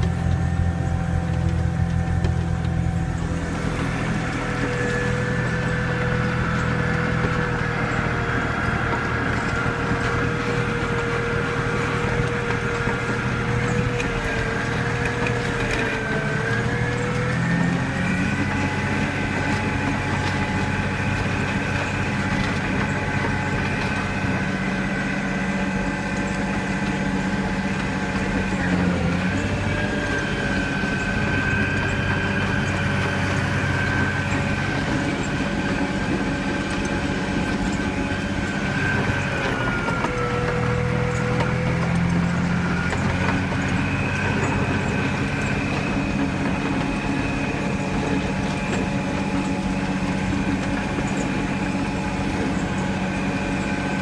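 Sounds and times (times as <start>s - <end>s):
grader diesel engine running: 0.0s - 54.0s
whine shifting in pitch: 0.0s - 54.0s.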